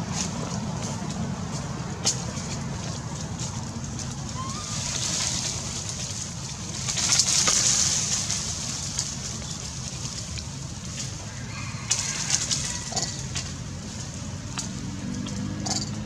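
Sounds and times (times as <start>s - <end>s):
rustling hiss: 0.0s - 16.0s.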